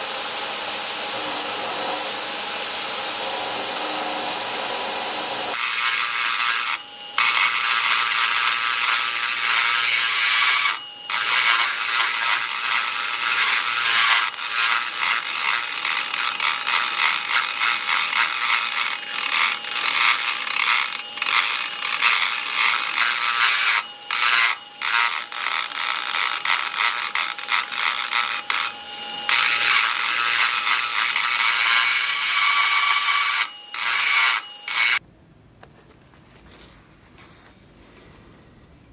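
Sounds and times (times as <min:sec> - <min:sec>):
bit grinding metal: 0:00.0 - 0:35.0
rotary tool motor whine: 0:00.0 - 0:35.0.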